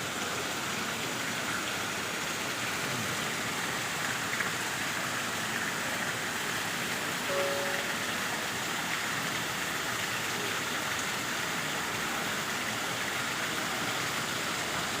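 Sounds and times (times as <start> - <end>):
waterfall splashing into pond: 0.0 - 15.0.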